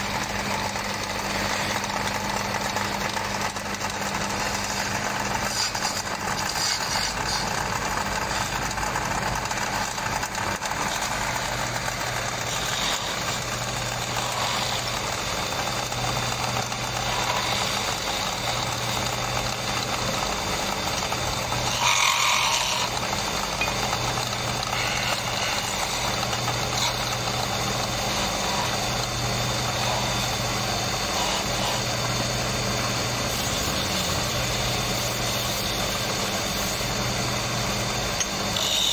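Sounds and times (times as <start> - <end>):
lathe motor humming: 0.0 - 38.9.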